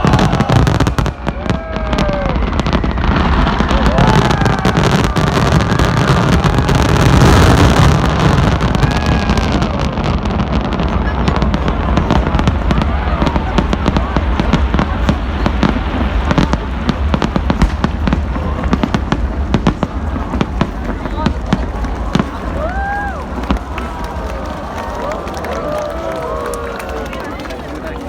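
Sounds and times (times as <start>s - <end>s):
firework blast and rumble: 0.0s - 26.4s
fireworks crackling pops: 0.0s - 28.0s.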